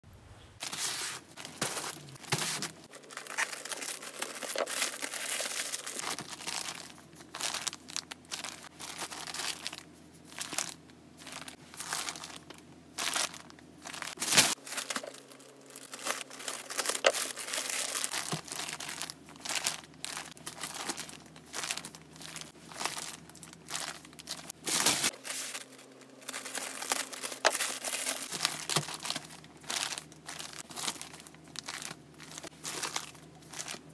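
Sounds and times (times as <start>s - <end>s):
bedding crinkling and rustling: 0.6s - 33.9s.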